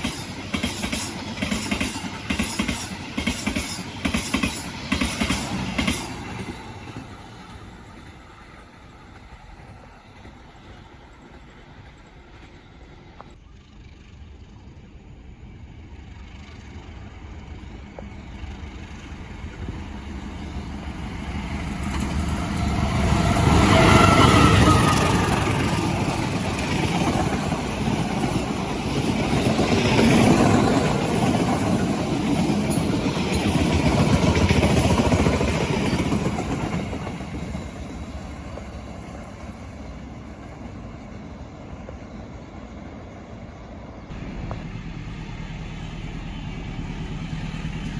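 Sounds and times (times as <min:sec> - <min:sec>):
train passing by: 0:00.0 - 0:47.9.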